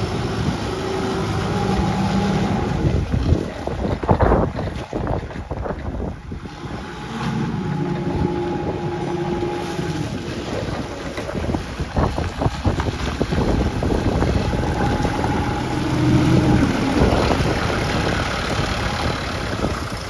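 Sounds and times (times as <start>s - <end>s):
forklift diesel engine running: 0.0s - 3.4s, 6.4s - 11.8s, 12.7s - 20.0s
wind buffeting microphone: 0.0s - 20.0s.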